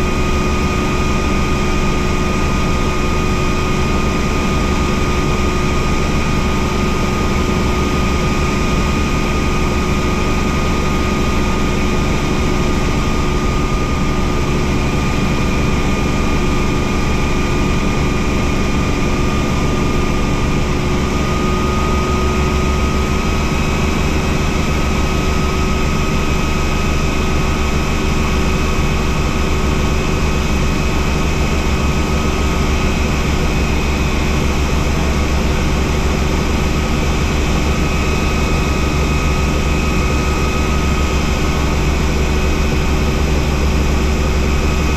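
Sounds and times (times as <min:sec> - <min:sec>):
helicopter engine and rotor: 0:00.0 - 0:44.9.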